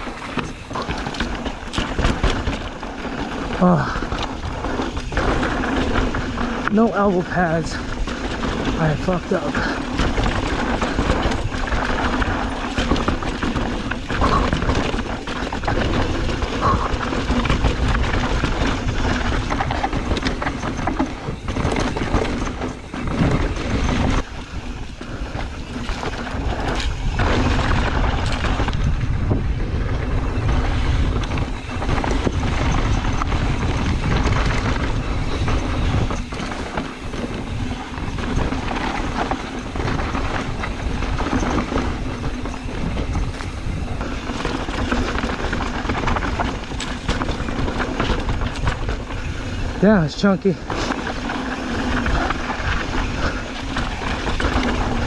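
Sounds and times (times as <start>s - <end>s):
bike rattling: 0.0s - 55.0s
tyres rumbling on dirt: 0.0s - 55.0s.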